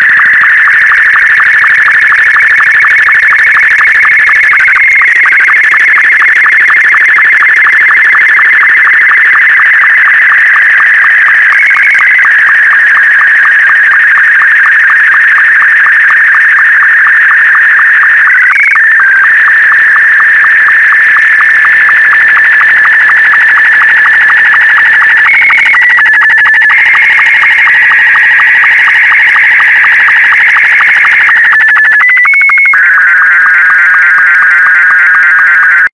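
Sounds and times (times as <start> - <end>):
fast regular sync ticking: 0.0 - 34.8.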